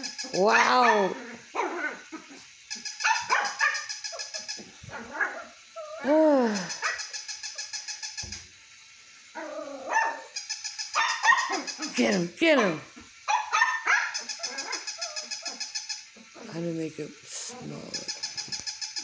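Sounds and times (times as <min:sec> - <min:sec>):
toy dog barks and yips: 0:00.0 - 0:08.4, 0:09.3 - 0:16.4
toy dog whine: 0:00.0 - 0:16.5, 0:17.4 - 0:19.0
toy mechanical whir: 0:00.0 - 0:19.0.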